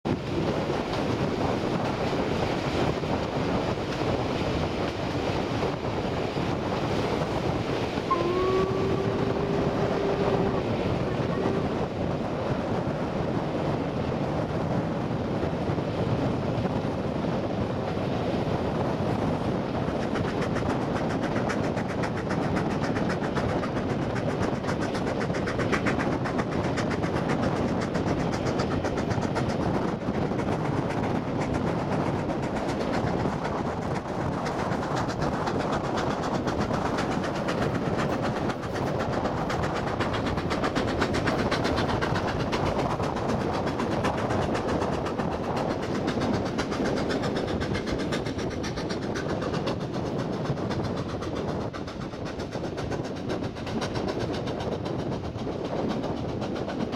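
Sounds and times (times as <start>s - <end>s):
train wheels clattering on rails: 0.1s - 56.9s.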